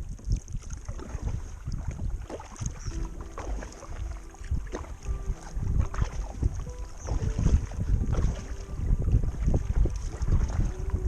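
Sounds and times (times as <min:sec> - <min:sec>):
paddle splashing in water: 0:00.0 - 0:11.0
wind rumbling on microphone: 0:00.0 - 0:11.0.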